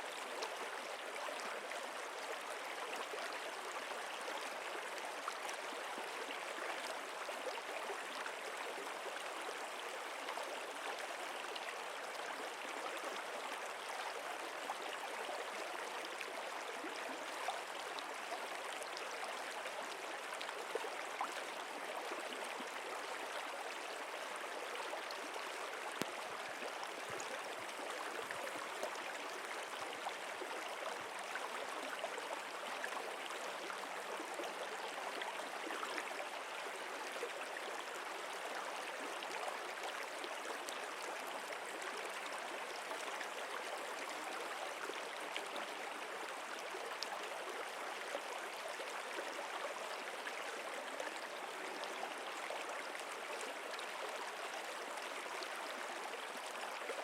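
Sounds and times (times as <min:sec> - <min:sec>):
stream water babbling: 0:00.0 - 0:57.0.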